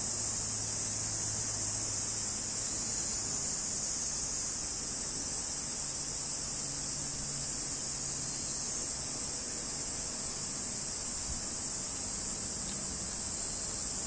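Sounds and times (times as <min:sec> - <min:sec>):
cicada buzzing: 0:00.0 - 0:14.0.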